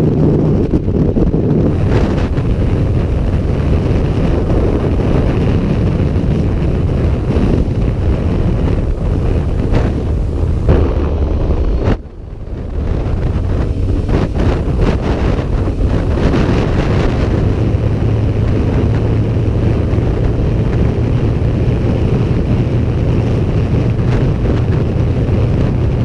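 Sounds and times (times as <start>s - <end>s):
motorcycle engine: 0.0s - 26.0s
road noise: 0.0s - 26.0s
wind rushing over microphone: 0.0s - 26.0s.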